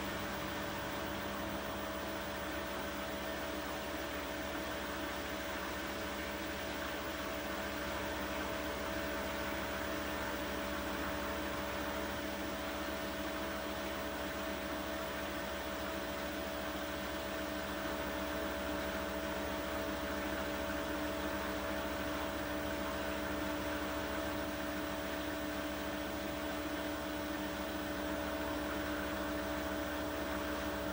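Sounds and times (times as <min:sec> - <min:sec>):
washing machine spinning: 0:00.0 - 0:30.9.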